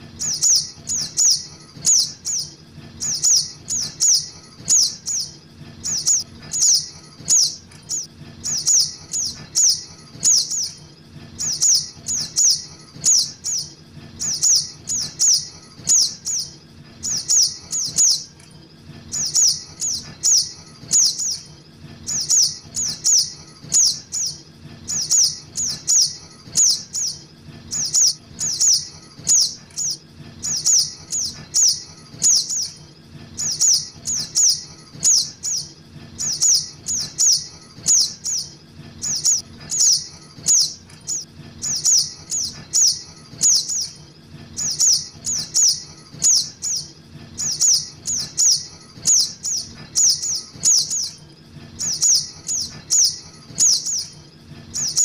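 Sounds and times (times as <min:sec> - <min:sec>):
high thin bird chirps: 0:00.2 - 0:18.4, 0:19.1 - 0:51.2, 0:51.8 - 0:55.0.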